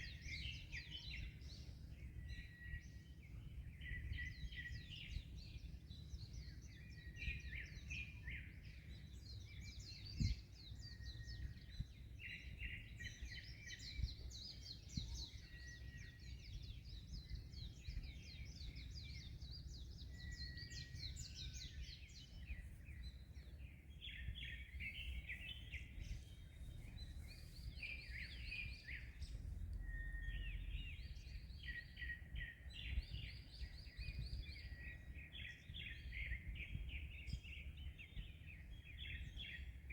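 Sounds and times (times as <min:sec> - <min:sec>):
small birds chirping: 0:00.0 - 0:39.9
wind: 0:00.0 - 0:39.9.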